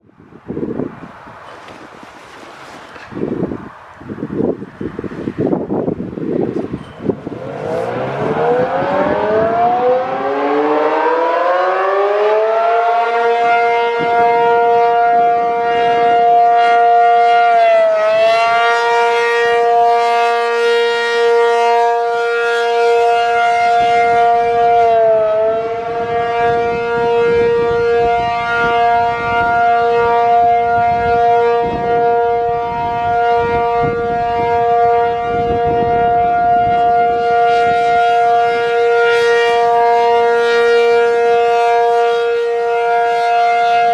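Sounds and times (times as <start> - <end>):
warning siren two-note chord: 7.0 - 43.9.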